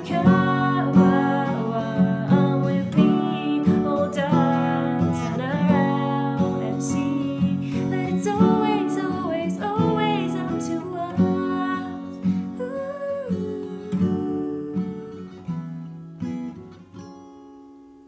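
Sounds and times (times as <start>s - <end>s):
acoustic guitar strummed chords: 0.0s - 18.0s.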